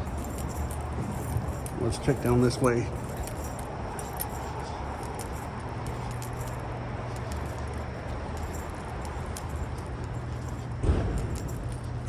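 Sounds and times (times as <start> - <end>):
light clicks and jingles: 0.0 - 12.0
low background hum: 0.0 - 12.0.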